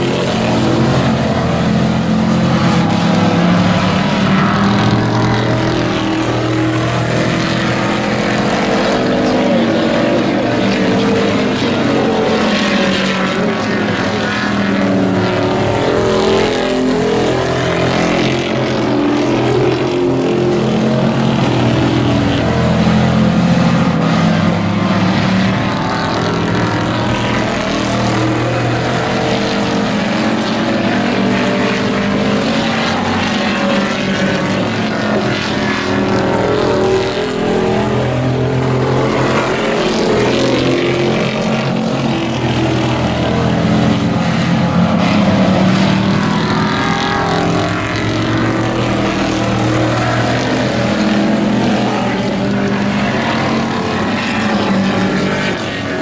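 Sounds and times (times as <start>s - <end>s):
race truck engines: 0.0s - 56.0s.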